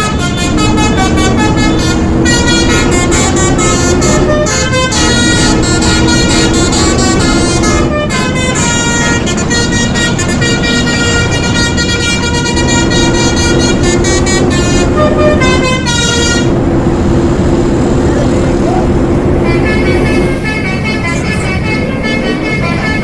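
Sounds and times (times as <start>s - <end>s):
musical horn playing a melody: 0.0s - 16.6s, 19.4s - 23.0s
vehicle engine rumble: 0.0s - 23.0s.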